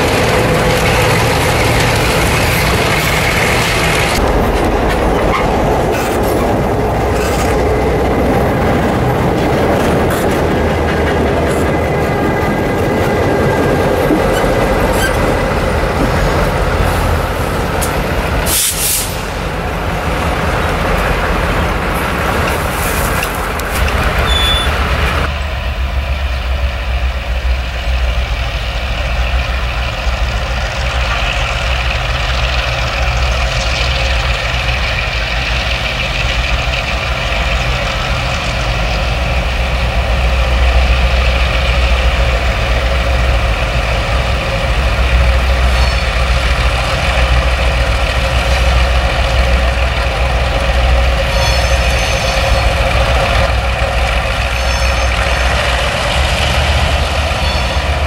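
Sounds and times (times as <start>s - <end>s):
diesel locomotive engine rumble: 0.0s - 58.0s
freight train approaching: 0.0s - 58.0s.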